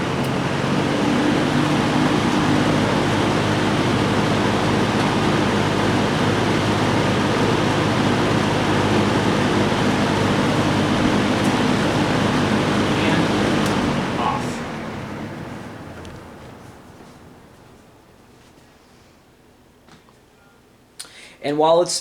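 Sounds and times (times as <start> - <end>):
box fan running: 0.0 - 22.0.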